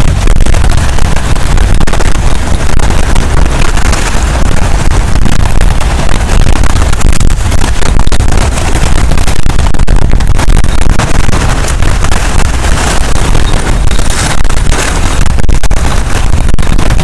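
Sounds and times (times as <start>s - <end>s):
waves washing against rocks: 0.0s - 17.0s
wind buffeting microphone: 0.0s - 17.0s.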